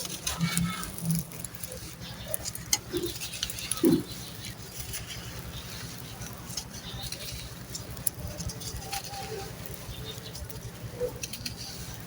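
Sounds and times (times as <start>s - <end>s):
dry sand-cement crumbling: 0.0s - 12.0s.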